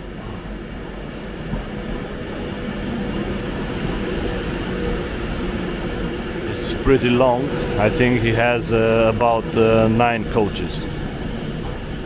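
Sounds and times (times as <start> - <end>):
electric train rumbling past: 0.0 - 12.0.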